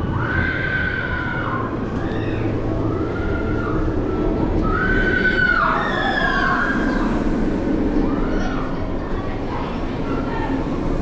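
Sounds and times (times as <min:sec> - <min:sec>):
roller coaster rumble: 0:00.0 - 0:11.0.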